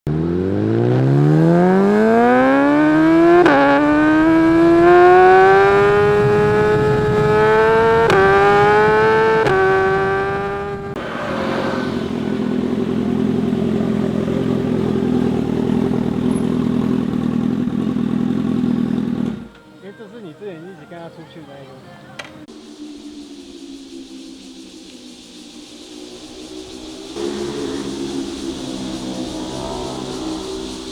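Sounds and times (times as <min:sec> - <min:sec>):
motorcycle engine revving: 0:00.0 - 0:19.6, 0:24.0 - 0:30.9.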